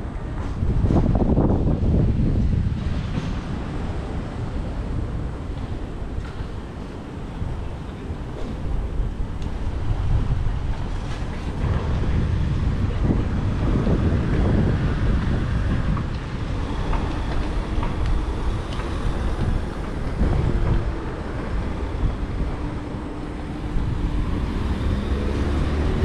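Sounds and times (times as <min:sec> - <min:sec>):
low traffic rumble: 0:00.0 - 0:26.0
wind buffeting microphone: 0:00.0 - 0:26.0.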